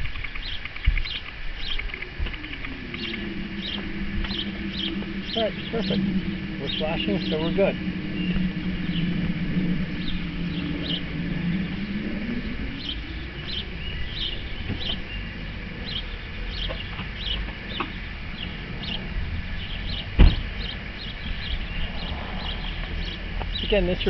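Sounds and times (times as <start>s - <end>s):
birds chirping: 0.0s - 24.0s
low hum: 0.0s - 24.0s.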